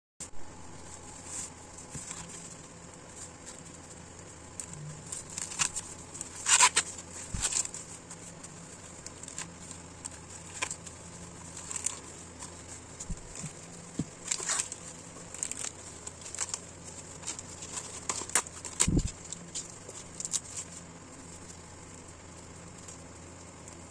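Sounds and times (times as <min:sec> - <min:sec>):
corn husks rustling and tearing: 0:00.6 - 0:23.9.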